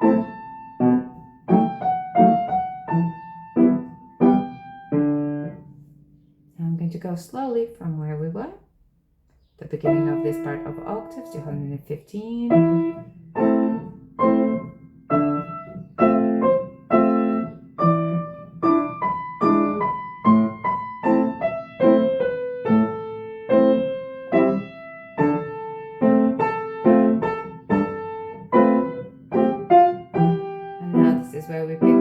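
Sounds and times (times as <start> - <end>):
slow piano chords and octaves: 0.0 - 6.6, 9.8 - 11.7, 12.5 - 32.0.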